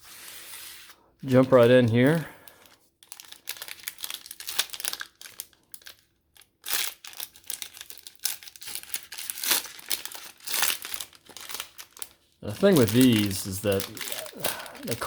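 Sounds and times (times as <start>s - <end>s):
wrapper tearing and crinkling: 1.6s - 15.0s.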